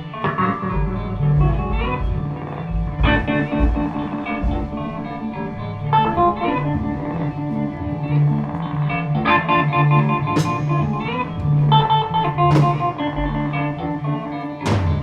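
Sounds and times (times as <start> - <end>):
blues guitar playing: 0.0 - 15.0
bass line: 0.4 - 14.0.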